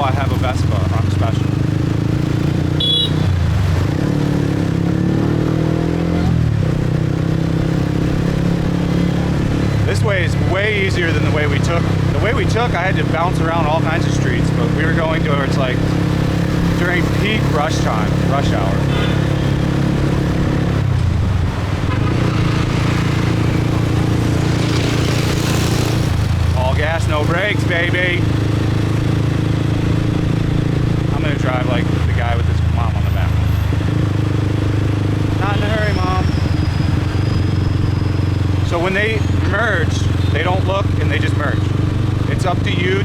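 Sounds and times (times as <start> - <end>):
motorcycle engine pulling away: 0.0 - 43.0
road noise: 0.0 - 43.0.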